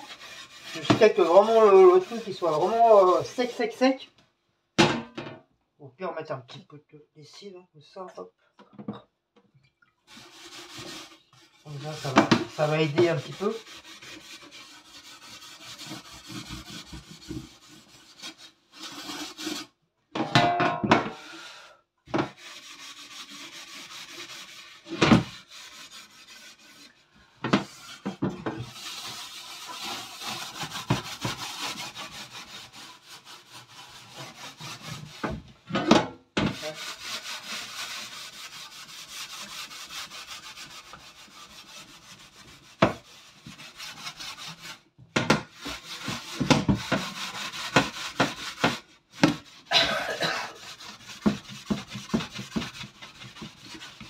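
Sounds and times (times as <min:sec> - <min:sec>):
sponge scrubbing a tray: 0:00.0 - 0:04.0, 0:10.1 - 0:19.8, 0:22.2 - 0:35.4, 0:36.5 - 0:44.8, 0:45.5 - 0:54.0.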